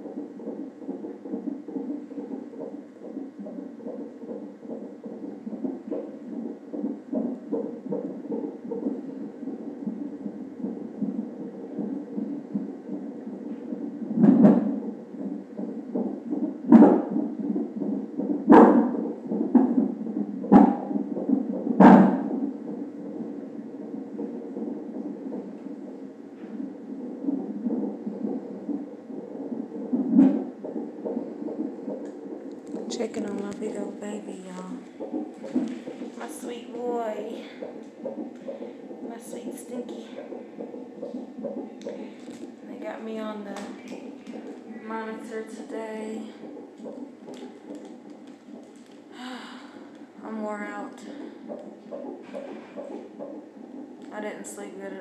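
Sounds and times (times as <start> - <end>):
doppler heartbeat whooshing: 0.0 - 55.0.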